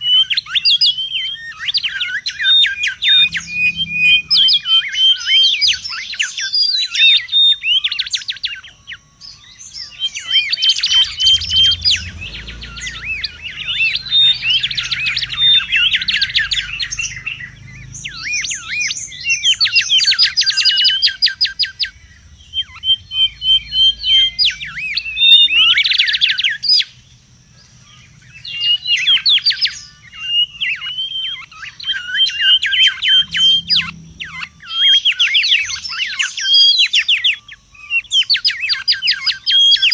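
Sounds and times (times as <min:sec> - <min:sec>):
bird whistling and trilling: 0:00.0 - 0:39.9.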